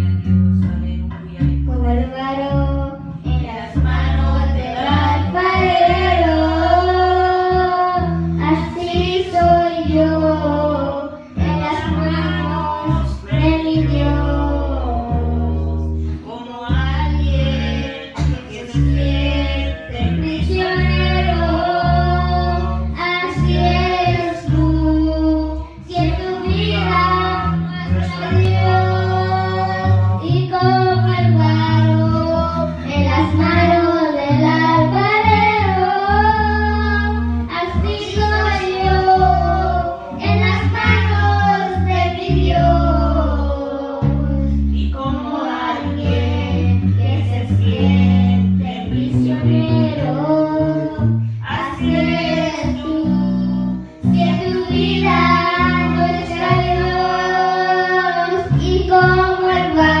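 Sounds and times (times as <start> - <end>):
electric guitar low sustained notes: 0.0 - 60.0
girl singing into microphone: 0.0 - 60.0.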